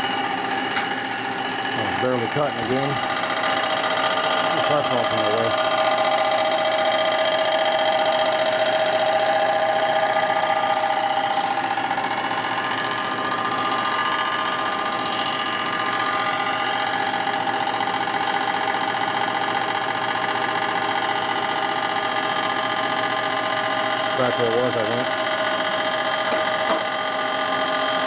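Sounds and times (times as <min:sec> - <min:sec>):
milling machine cutter whine: 0:00.0 - 0:28.0.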